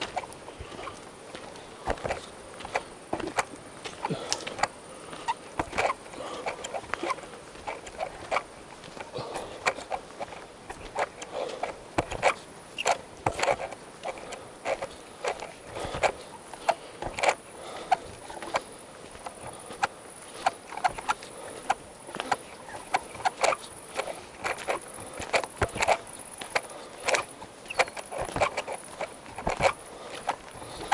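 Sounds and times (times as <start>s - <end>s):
footsteps crunching on gravel: 0.0s - 30.9s.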